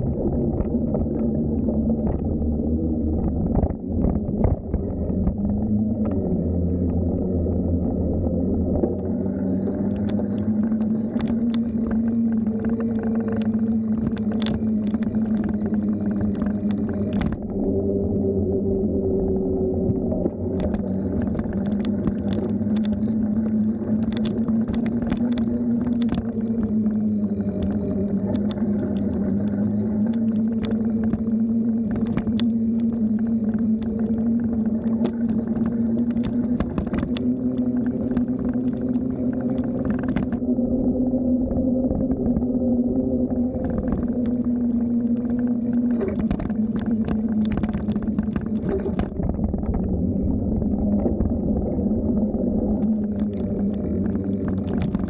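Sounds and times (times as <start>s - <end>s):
bicycle wheels humming: 5.0s - 55.0s.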